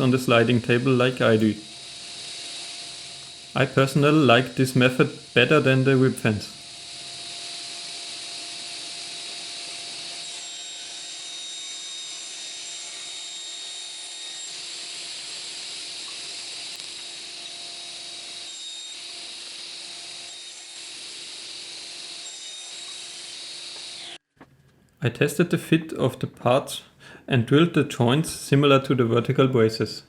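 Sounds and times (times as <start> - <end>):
table saw whining: 0.0 - 24.2.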